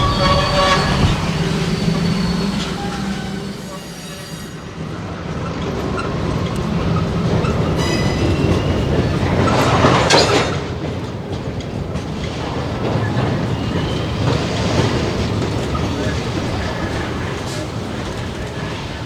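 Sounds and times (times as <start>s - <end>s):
wheels clicking over rails: 0.0s - 3.9s, 5.2s - 19.0s
diesel locomotive rumbling: 0.0s - 19.0s
wheel squeal: 0.0s - 19.0s.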